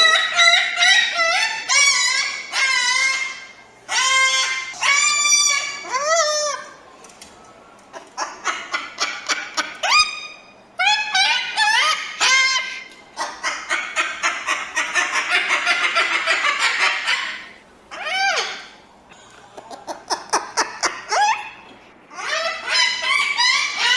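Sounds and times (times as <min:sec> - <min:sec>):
cockatoo calling: 0:00.0 - 0:06.8, 0:07.9 - 0:18.8, 0:19.6 - 0:23.9
cockatoo chattering: 0:00.0 - 0:06.8, 0:07.9 - 0:23.9.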